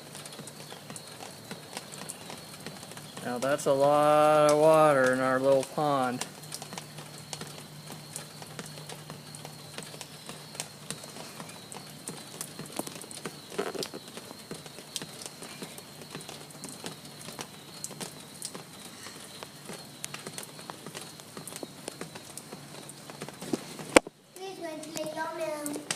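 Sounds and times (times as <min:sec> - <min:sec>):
rainwater dripping and splashing: 0:00.0 - 0:25.9.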